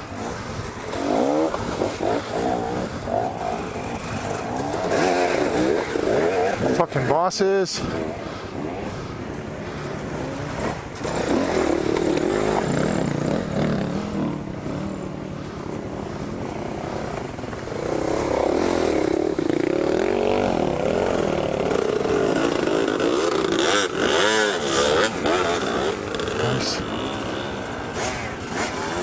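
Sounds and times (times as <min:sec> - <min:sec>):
motorcycle engine revving: 0:00.0 - 0:07.2, 0:07.8 - 0:29.0.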